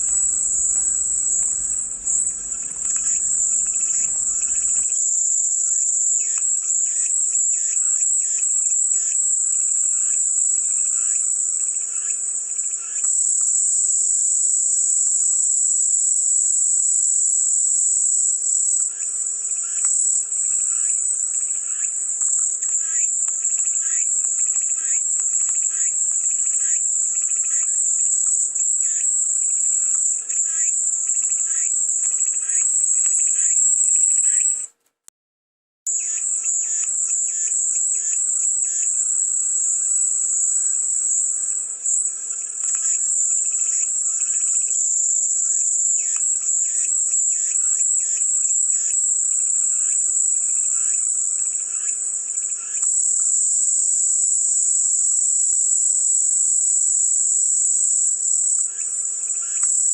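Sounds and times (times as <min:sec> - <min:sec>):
cicadas chorus: 0:00.0 - 0:34.7, 0:35.9 - 0:59.9
rapid pulsing insect calls: 0:00.0 - 0:34.7, 0:35.9 - 0:59.9.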